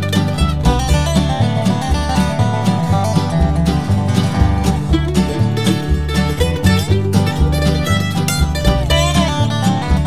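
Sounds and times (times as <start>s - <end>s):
acoustic guitars: 0.0s - 10.0s
plucked mandolin: 0.0s - 10.0s
upright bass: 0.0s - 10.0s.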